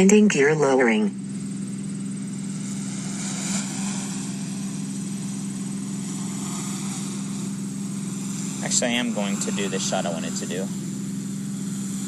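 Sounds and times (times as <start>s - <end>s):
drone propellers humming: 0.8s - 12.0s.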